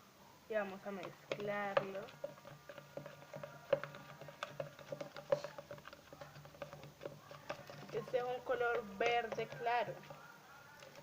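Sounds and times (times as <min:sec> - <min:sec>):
utensil tapping container: 0:00.9 - 0:10.2, 0:10.8 - 0:11.0.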